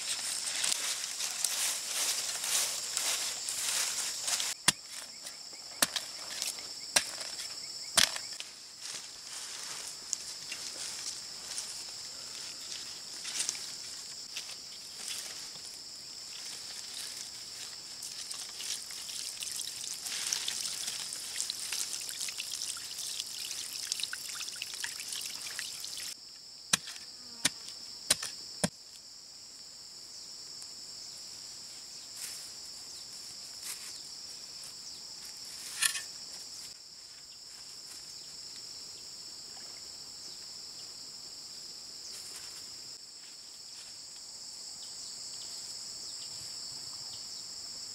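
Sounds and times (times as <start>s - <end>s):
insect chorus buzzing: 0.0s - 47.9s.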